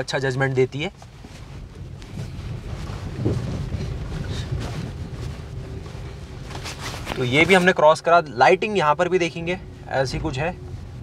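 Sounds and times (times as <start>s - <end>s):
car engine hum: 0.0s - 11.0s
tyre and suspension noise: 0.0s - 11.0s.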